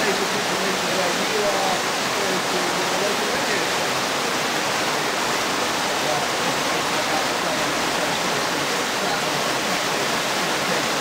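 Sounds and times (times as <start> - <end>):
water rushing over a ledge: 0.0 - 11.0.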